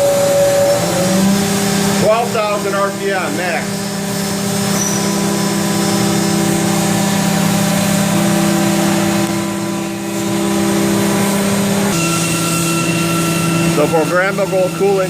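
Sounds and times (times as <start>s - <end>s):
machine spindle whine: 0.0s - 15.0s.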